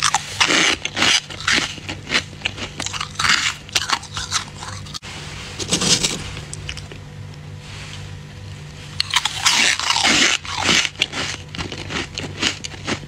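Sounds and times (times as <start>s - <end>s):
person crunching frost: 0.0s - 7.0s, 8.6s - 13.0s
steady low hum: 0.0s - 13.0s.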